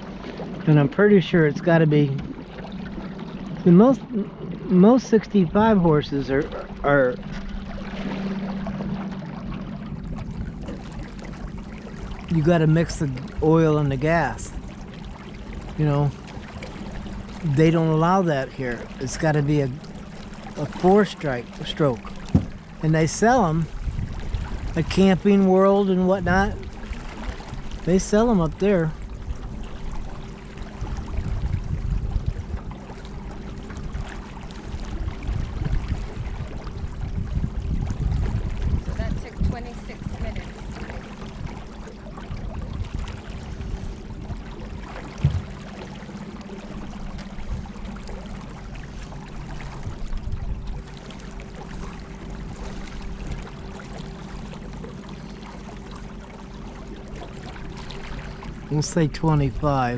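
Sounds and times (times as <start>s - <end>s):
electric boat motor humming: 0.0s - 59.9s
low rumble of moving water: 0.0s - 59.9s.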